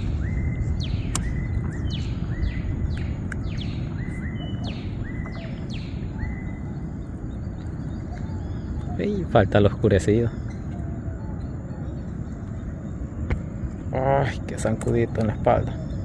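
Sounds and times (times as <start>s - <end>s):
bird calling: 0.0s - 16.0s
steady low rumble: 0.0s - 16.0s.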